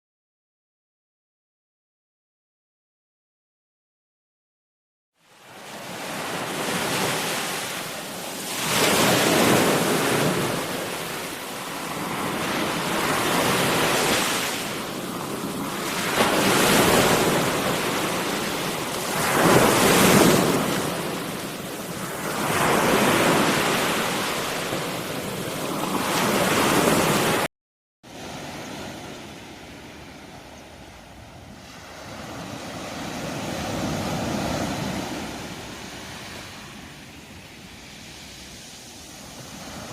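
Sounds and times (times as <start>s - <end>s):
sea waves breaking on shore: 5.2s - 27.5s, 28.1s - 39.9s.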